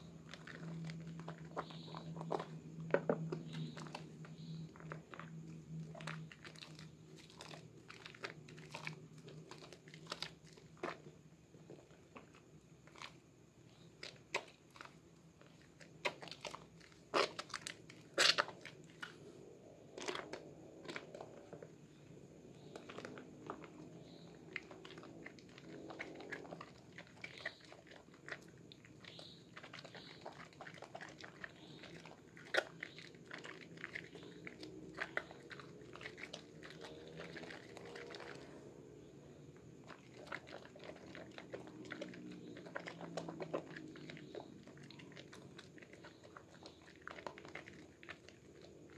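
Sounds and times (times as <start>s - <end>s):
faint low hum: 0.0s - 48.9s
hands squishing soapy water: 0.0s - 48.9s.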